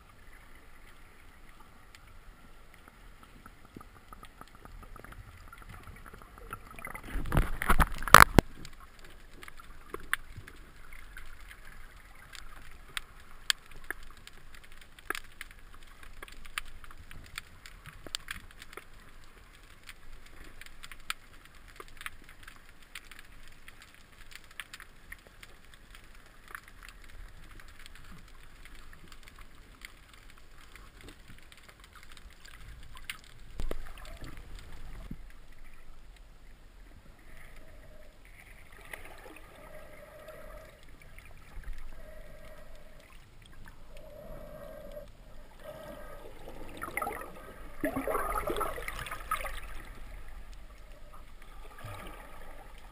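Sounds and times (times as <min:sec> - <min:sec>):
faint underwater hiss: 0:00.0 - 0:52.9.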